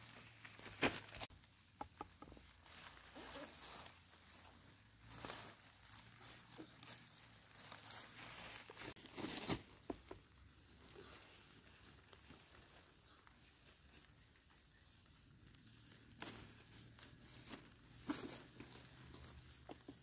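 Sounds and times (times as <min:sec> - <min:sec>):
rustling of leaves and plastic film: 0:00.0 - 0:01.5, 0:02.2 - 0:20.0.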